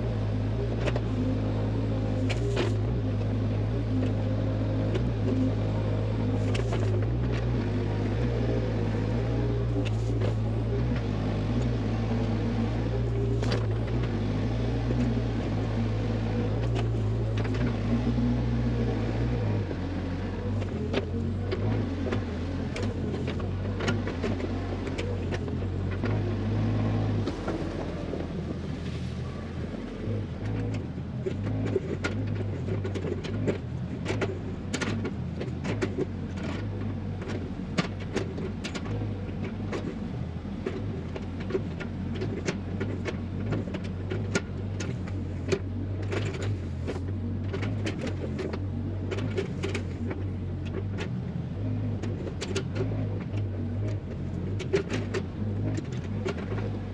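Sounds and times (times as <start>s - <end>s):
machine engine droning: 0.0s - 56.9s.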